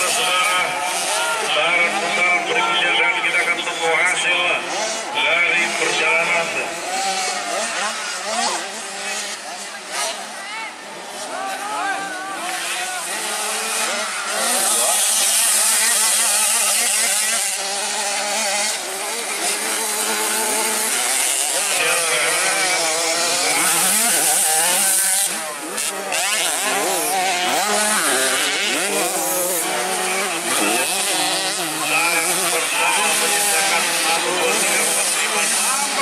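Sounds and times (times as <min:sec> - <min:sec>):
motocross bikes revving: 0:00.0 - 0:36.0.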